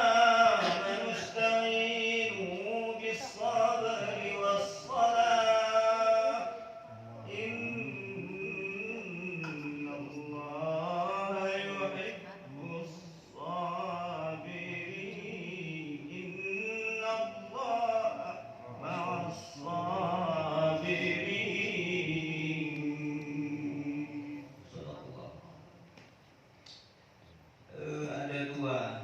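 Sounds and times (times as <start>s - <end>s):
man chanting melodic recitation: 0.0s - 25.6s.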